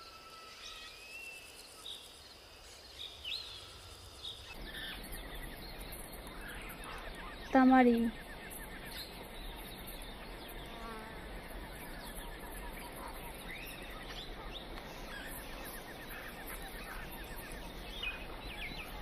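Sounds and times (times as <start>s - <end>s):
birds chirping: 0.0s - 19.0s
steady background hiss: 0.0s - 19.0s.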